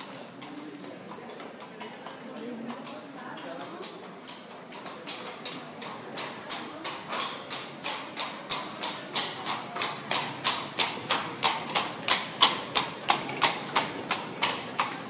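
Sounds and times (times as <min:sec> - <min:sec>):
horse hoofbeats: 0:00.0 - 0:15.0.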